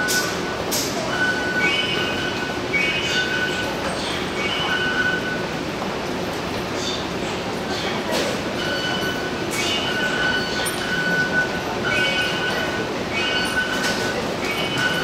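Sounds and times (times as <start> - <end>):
station background noise: 0.0 - 15.0.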